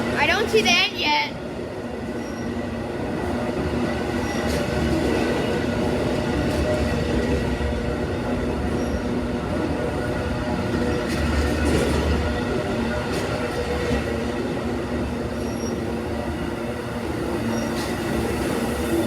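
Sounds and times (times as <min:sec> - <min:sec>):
rail cars rumbling past: 0:00.0 - 0:19.0.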